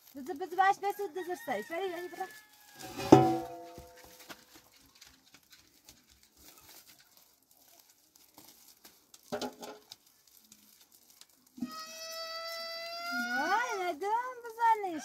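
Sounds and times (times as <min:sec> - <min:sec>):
flour sack rustling: 0:00.0 - 0:15.0.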